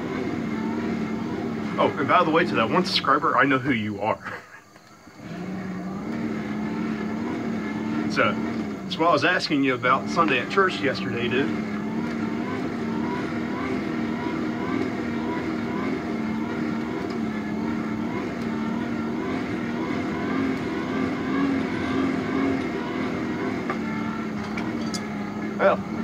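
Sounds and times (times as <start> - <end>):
motor humming: 4.8 - 26.0.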